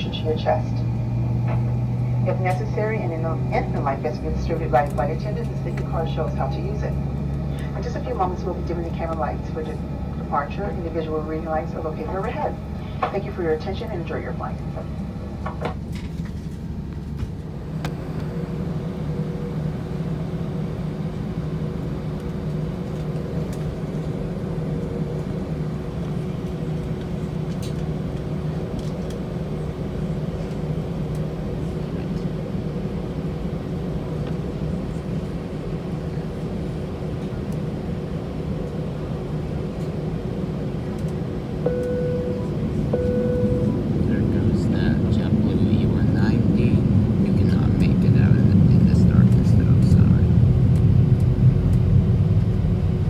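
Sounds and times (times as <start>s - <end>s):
faint steady hum: 0.0s - 53.0s
jet engine cabin rumble: 0.0s - 53.0s.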